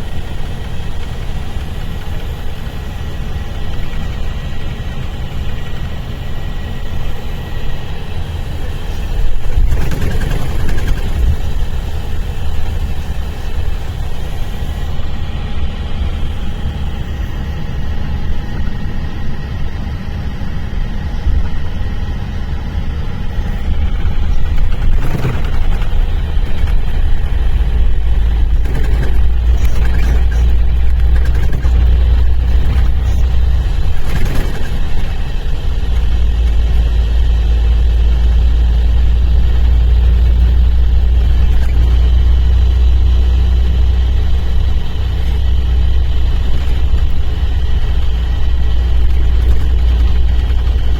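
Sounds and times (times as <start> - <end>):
bus diesel engine rumbling: 0.0 - 50.9.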